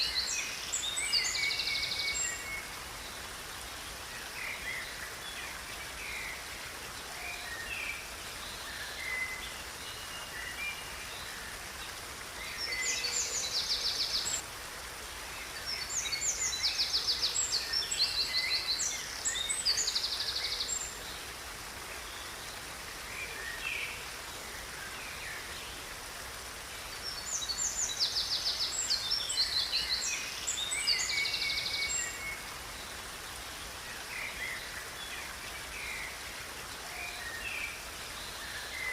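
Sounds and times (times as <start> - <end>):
running water hiss: 0.0 - 38.9
songbirds singing: 0.0 - 38.9.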